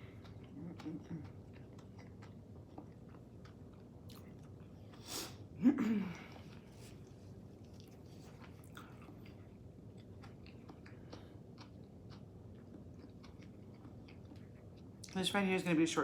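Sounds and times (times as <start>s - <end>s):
chewing soft food: 0.0s - 15.2s.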